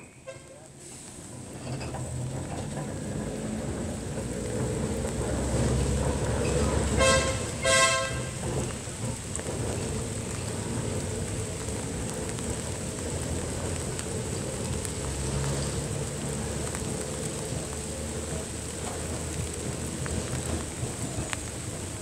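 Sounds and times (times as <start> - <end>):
rain hissing: 0.0 - 22.0
tram rumbling along track: 0.0 - 22.0.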